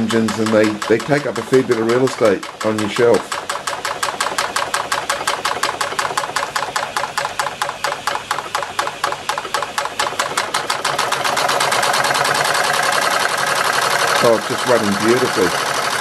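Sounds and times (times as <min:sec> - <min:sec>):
model steam engine exhaust beating: 0:00.0 - 0:16.0.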